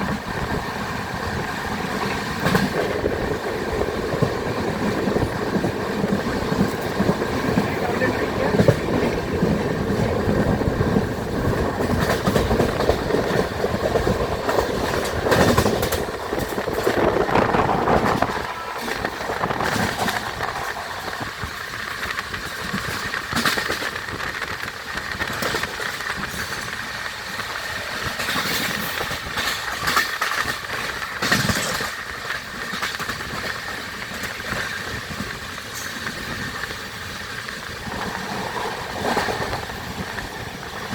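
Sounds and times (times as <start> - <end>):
train running on rails: 0.0 - 40.9.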